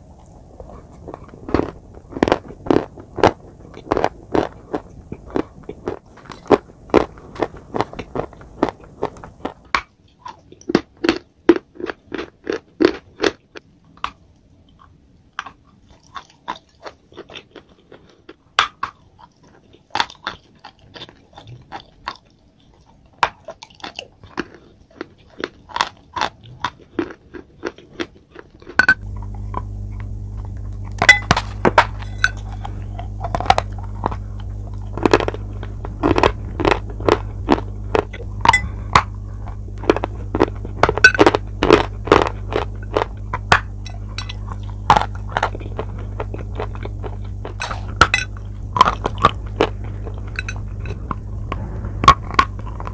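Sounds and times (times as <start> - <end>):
chewing crunchy chalk: 0.0 - 52.9
steady low hum: 0.0 - 52.9.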